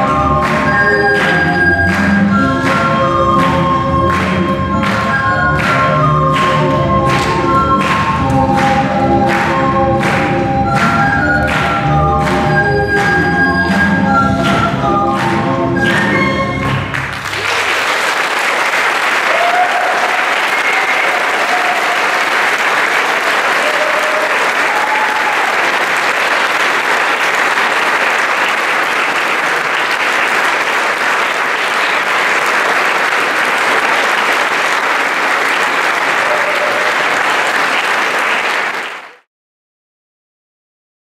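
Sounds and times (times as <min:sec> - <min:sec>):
audience applauding: 0:00.0 - 0:39.3.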